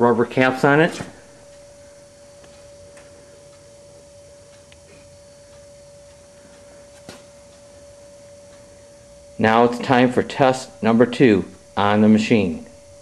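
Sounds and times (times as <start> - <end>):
faint electrical whine: 0.0 - 13.0.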